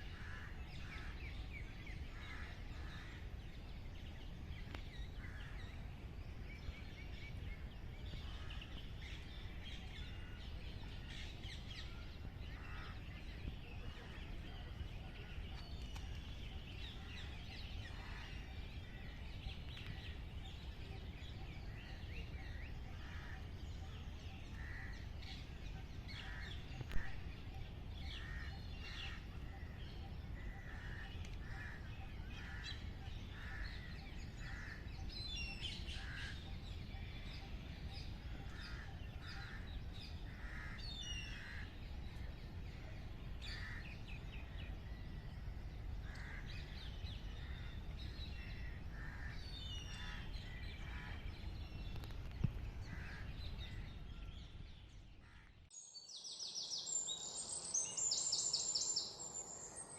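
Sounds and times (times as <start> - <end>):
wild birds calling and chirping: 0.0 - 59.9.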